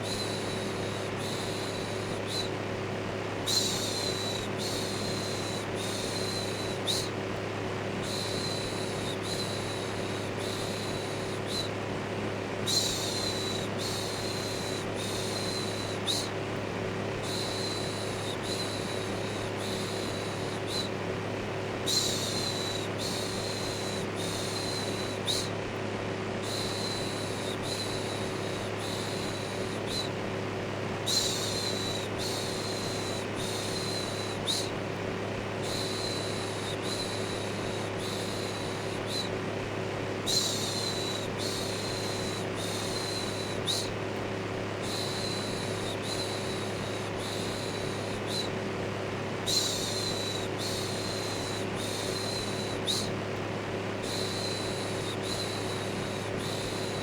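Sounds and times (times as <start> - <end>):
electric fan whooshing and humming: 0.0 - 57.0.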